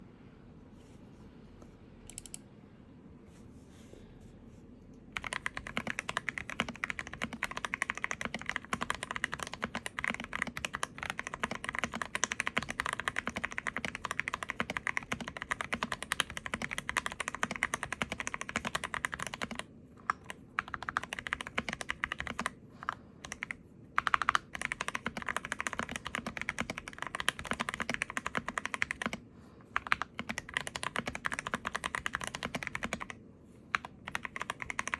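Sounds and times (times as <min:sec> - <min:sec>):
typing on mechanical keyboard: 0:05.2 - 0:29.2, 0:29.8 - 0:34.9.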